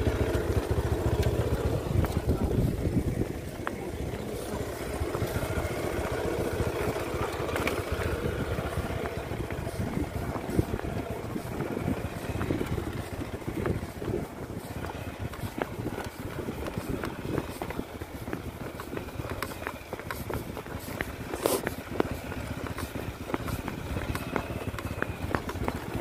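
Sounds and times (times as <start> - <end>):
motorcycle engines rumbling: 0.0 - 26.0
stones crunching under tyres: 0.0 - 26.0.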